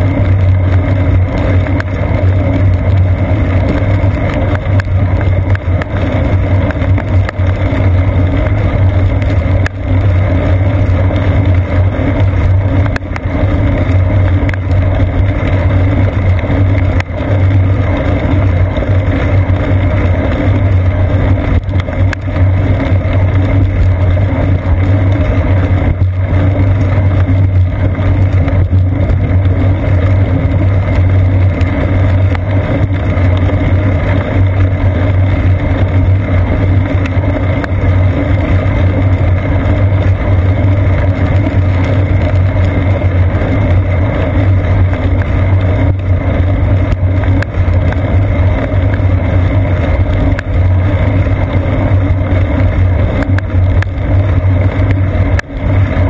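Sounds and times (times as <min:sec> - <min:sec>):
bicycle road rumble on wet pavement: 0:00.0 - 0:56.0.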